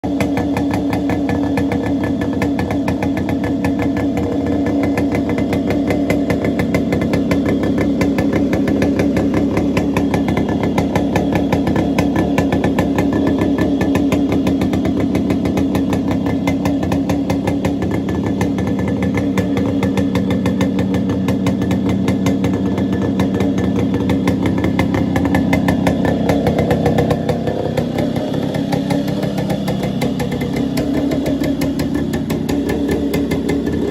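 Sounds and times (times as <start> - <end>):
two-stroke engine idling: 0.0 - 33.9.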